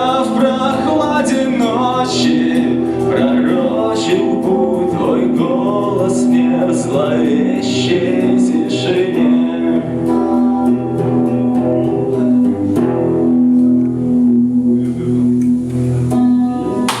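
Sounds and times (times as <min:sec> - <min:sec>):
electric guitars and bass: 0:00.0 - 0:17.0.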